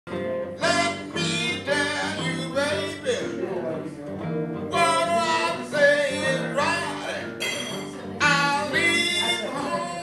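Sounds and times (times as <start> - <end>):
acoustic guitar chords: 0.1 - 10.0.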